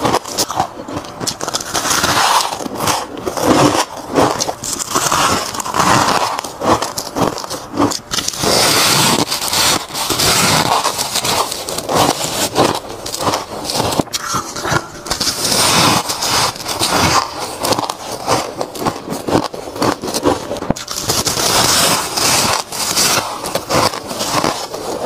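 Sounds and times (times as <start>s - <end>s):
crunching frost in mouth: 0.0s - 25.0s.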